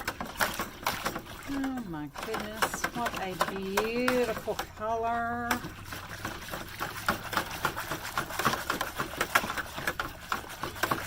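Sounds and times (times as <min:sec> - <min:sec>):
utensil scraping plastic container: 0:00.0 - 0:11.0.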